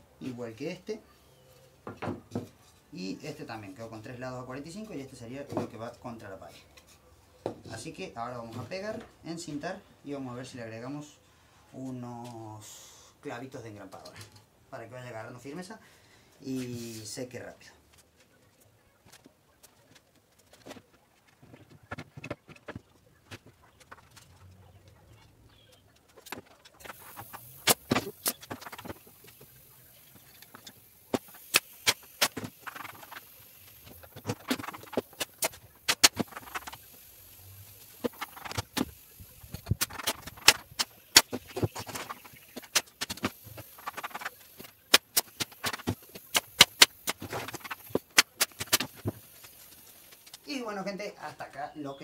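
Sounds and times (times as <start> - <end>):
faint high-pitched hiss: 0.0 - 52.0.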